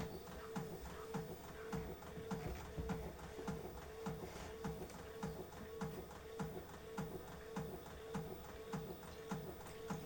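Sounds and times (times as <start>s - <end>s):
washing machine motor hum: 0.0s - 10.0s.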